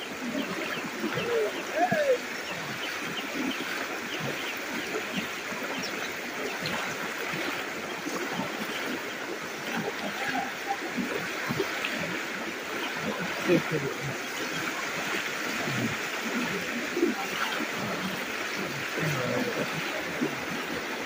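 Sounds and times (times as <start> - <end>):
floodwater sloshing: 0.0 - 21.0
people wading splashes: 0.0 - 21.0.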